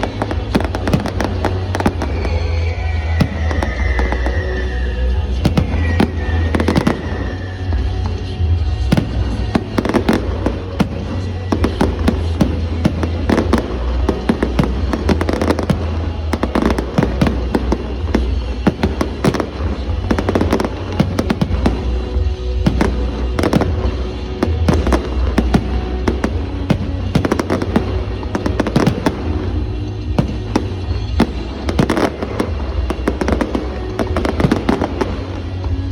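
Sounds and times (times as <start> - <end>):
deep fireworks booms: 0.0 - 35.9
fireworks bangs and crackles: 0.0 - 35.9.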